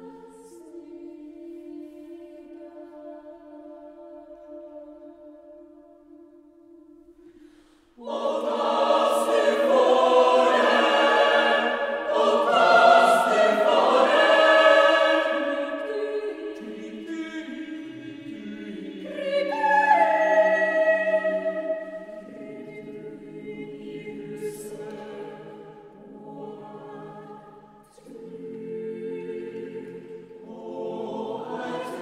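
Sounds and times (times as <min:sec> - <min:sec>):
choir singing sustained chords: 0:00.0 - 0:32.0.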